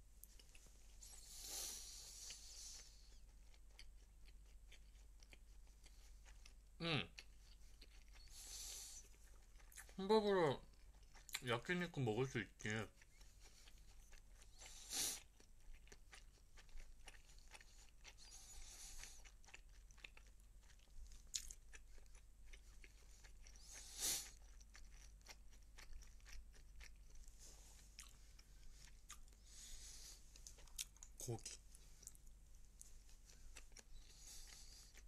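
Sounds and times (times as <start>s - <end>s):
person chewing and crunching food: 0.2s - 35.0s.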